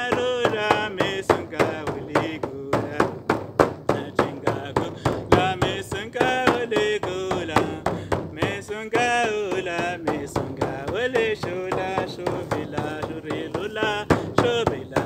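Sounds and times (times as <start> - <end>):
frame drum beating: 0.0 - 15.0
man chanting: 0.0 - 15.0.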